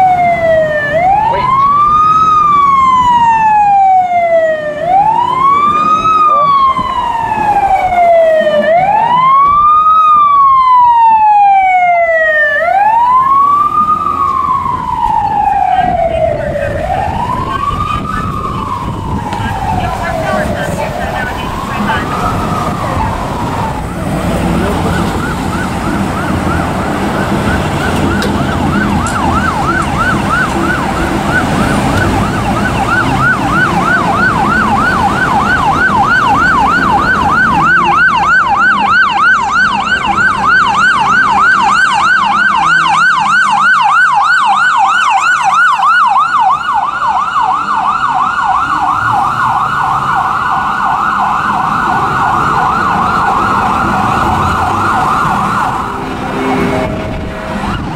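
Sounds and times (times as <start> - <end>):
emergency siren yelping: 0.0 - 57.9.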